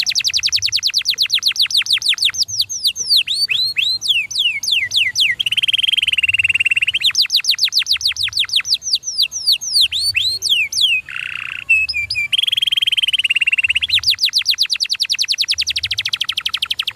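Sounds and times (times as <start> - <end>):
canary singing: 0.0 - 16.9.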